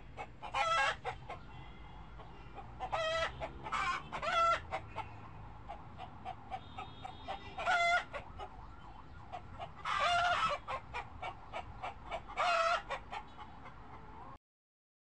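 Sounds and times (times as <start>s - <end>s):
chickens clucking: 0.0s - 14.4s
drawn-out chicken calls: 0.0s - 14.4s.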